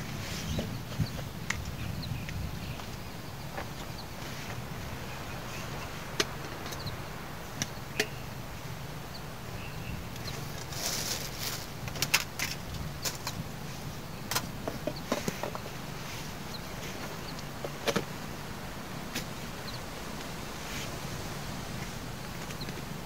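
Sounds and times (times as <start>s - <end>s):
rustle: 0.0s - 23.0s.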